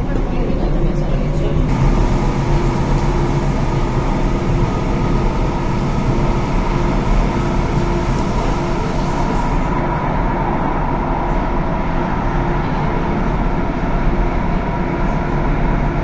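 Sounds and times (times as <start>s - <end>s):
train motor hum and whine: 0.0s - 14.4s.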